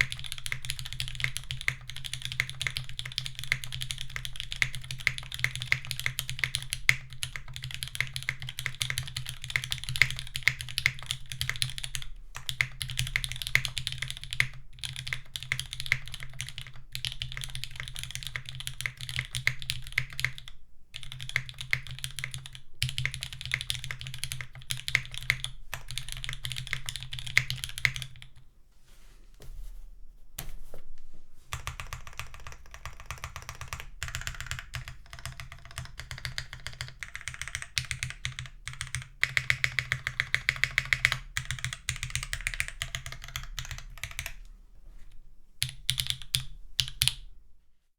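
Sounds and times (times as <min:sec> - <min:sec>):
mechanical keyboard typing: 0:00.0 - 0:28.3, 0:31.5 - 0:44.4, 0:45.6 - 0:47.2.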